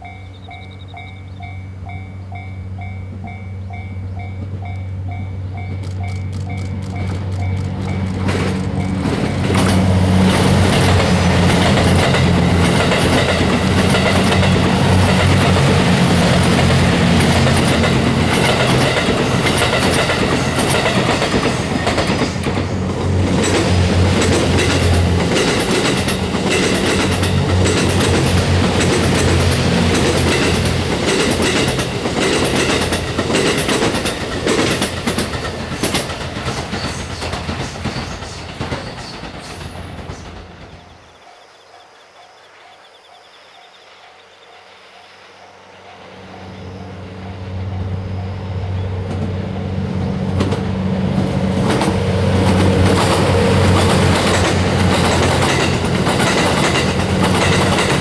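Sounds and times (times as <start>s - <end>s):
train wheels clicking over rail joints: 0.0s - 41.1s, 49.0s - 58.0s.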